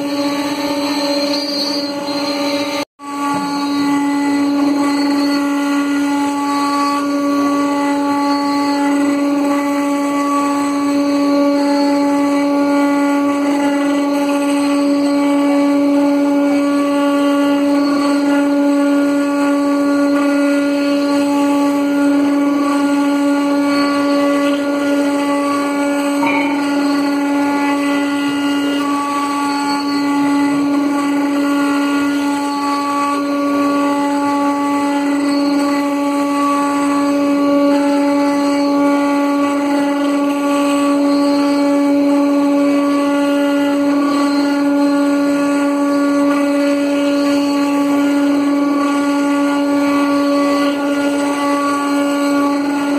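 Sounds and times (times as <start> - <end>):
router spindle whining: 0.0 - 52.9.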